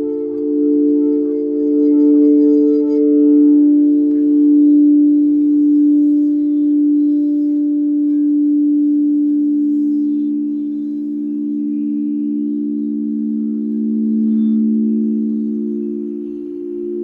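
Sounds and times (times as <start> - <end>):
low singing bowl tone: 0.0 - 17.0
singing bowls ringing: 0.0 - 17.0.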